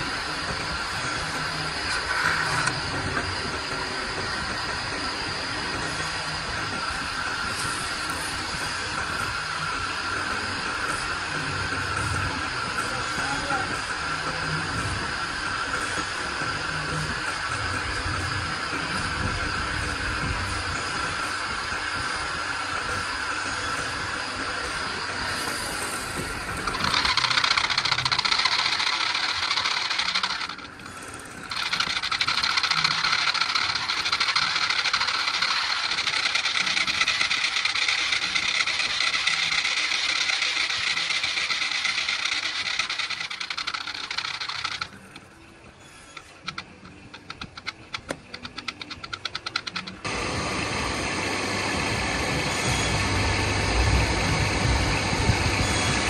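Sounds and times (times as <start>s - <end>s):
low machine hum: 0.0s - 56.0s
wood lathe friction hiss: 0.0s - 56.0s.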